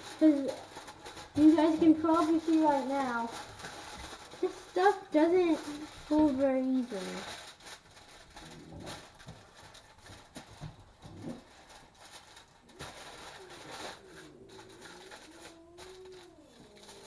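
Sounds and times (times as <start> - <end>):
aluminum foil crinkling: 0.0 - 17.0.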